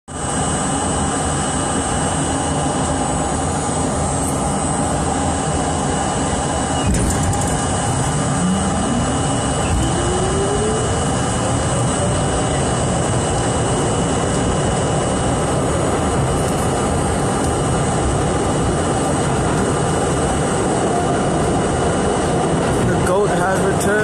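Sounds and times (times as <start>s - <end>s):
subway train rumbling: 0.1s - 24.0s
traction motors whining: 1.8s - 23.2s.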